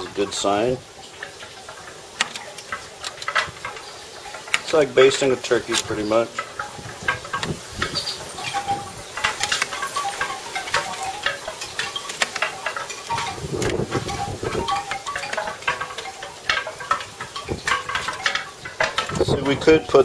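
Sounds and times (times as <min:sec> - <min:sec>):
gusty wind: 0:00.0 - 0:20.0
metal spoon clinking in foil pan: 0:00.0 - 0:20.0
wind chimes ringing: 0:00.0 - 0:20.0.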